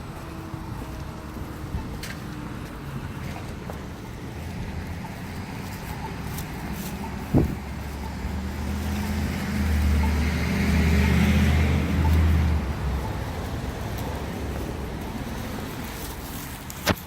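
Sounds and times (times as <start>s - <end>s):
vehicle engine drone passing: 0.0s - 16.4s
road noise rushing: 0.0s - 17.0s.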